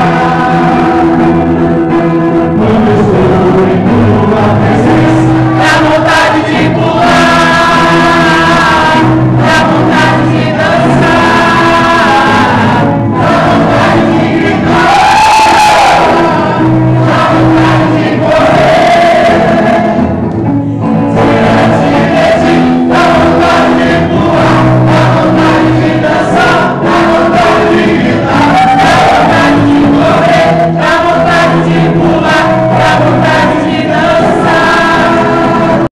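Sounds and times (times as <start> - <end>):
accompanying music with steady beat: 0.0 - 35.9
congregation singing worship song: 0.0 - 35.9.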